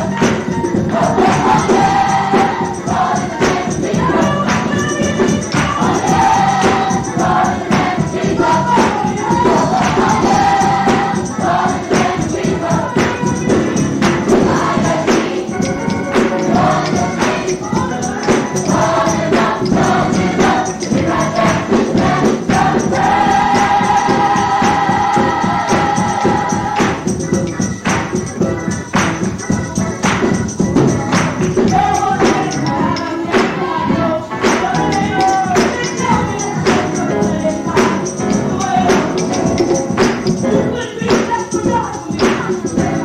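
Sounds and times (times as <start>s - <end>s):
gospel choir singing with band: 0.0s - 43.0s
tambourine beat: 0.0s - 43.0s.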